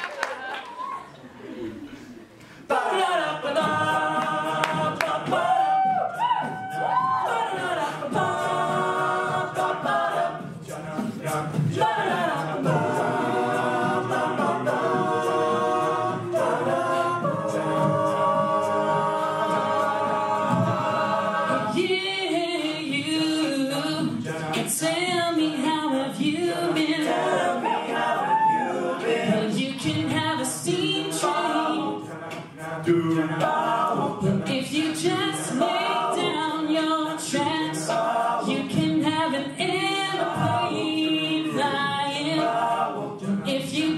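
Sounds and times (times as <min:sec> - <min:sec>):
vocal percussion beat: 0:00.0 - 0:43.9
male a cappella harmony singing: 0:02.6 - 0:43.9.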